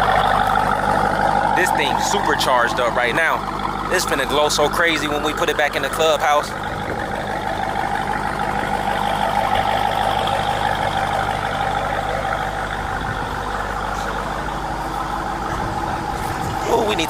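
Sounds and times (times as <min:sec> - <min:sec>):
engine idling: 0:00.0 - 0:17.0
supercharger whine: 0:00.0 - 0:17.0.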